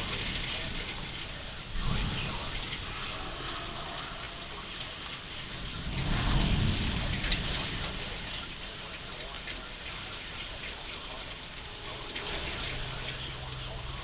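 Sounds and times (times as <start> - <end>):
heavy rain falling: 0.0 - 14.0
low rumble of thunder: 0.0 - 14.0.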